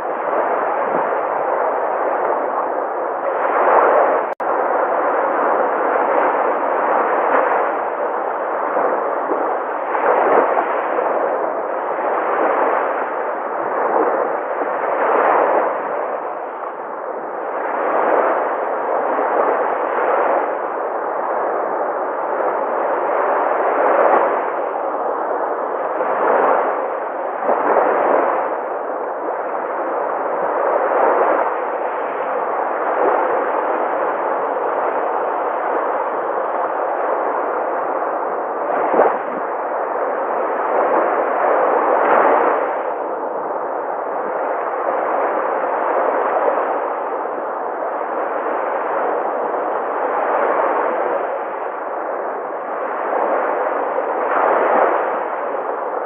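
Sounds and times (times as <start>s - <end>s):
sea waves breaking: 0.0s - 56.0s.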